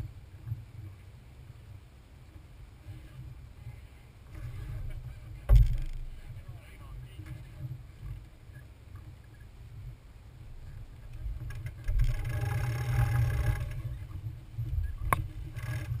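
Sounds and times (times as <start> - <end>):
water noise: 0.0 - 16.0
wind rumbling on microphone: 0.0 - 16.0.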